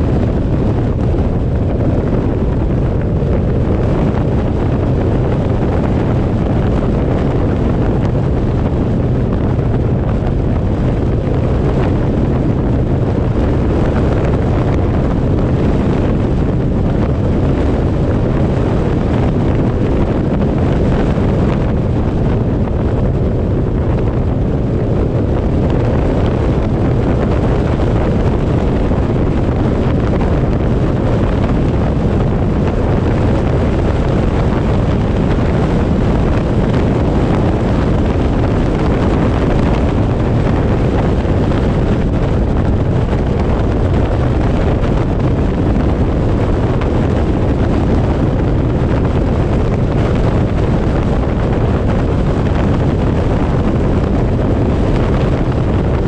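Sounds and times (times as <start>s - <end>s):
road and engine noise: 0.0s - 56.0s
wind rushing over microphone: 0.0s - 56.0s.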